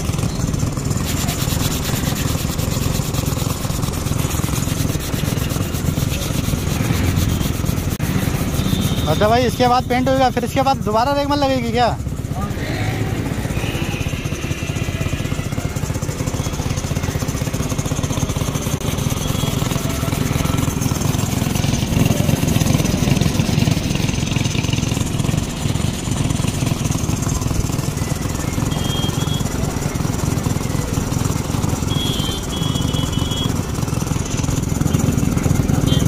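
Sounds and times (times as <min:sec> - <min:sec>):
air compressor running: 0:00.0 - 0:36.0.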